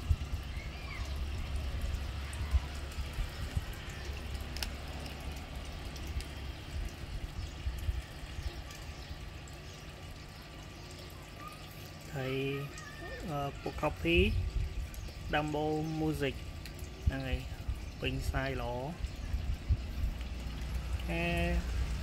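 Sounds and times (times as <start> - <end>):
faint trickling water: 0.0 - 22.0
low uneven rumble: 0.0 - 22.0.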